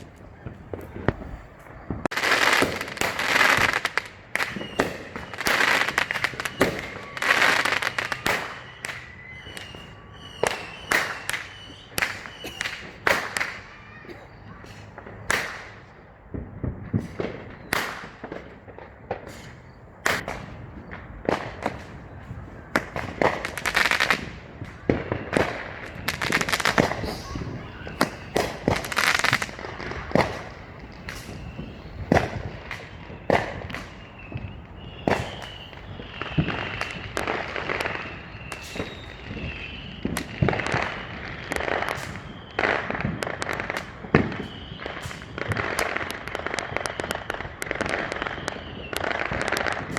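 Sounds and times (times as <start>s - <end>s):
fireworks and firecrackers banging: 0.0s - 49.9s.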